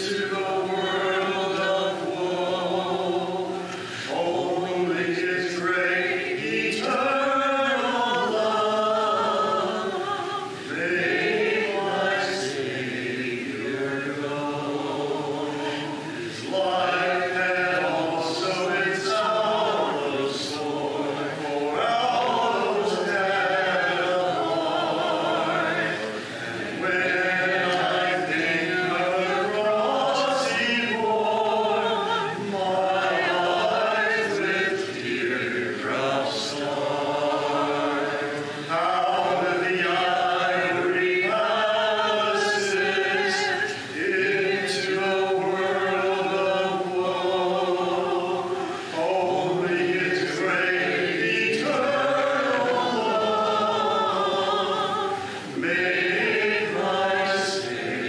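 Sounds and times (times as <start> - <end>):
congregation singing a hymn: 0.0 - 58.0.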